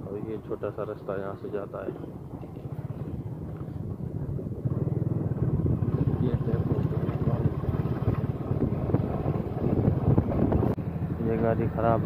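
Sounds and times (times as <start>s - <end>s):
motorcycle engine running: 1.6s - 12.0s.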